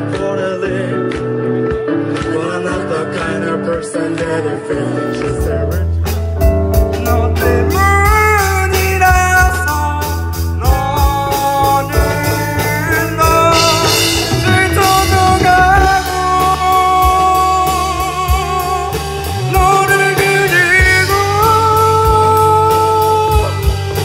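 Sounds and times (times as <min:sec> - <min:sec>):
male lead vocal: 0:00.0 - 0:06.2, 0:06.8 - 0:24.0
rock band playing: 0:00.0 - 0:24.0.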